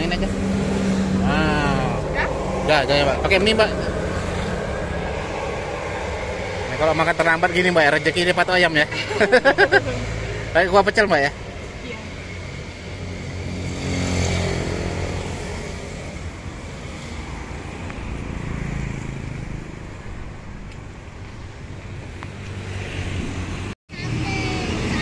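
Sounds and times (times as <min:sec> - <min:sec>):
vehicle engine passing: 0:00.0 - 0:20.6
low rumble of traffic: 0:00.0 - 0:25.0.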